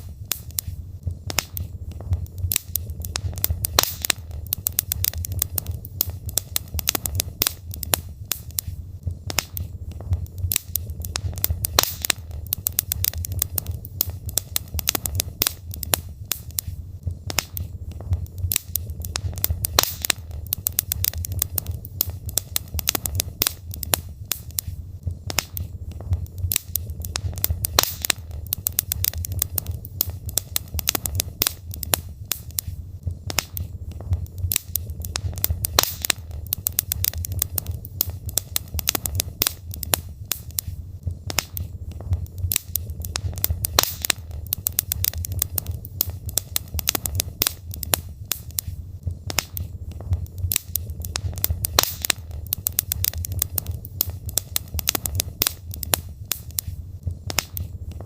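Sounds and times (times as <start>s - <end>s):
low rumble: 0.0s - 58.0s
wood fire crackling: 0.0s - 58.0s.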